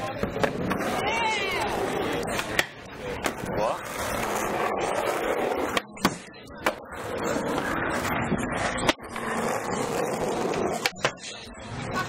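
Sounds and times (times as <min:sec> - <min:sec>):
skateboard clacks: 0:00.0 - 0:11.3
skateboard wheels rolling on asphalt: 0:00.0 - 0:12.0.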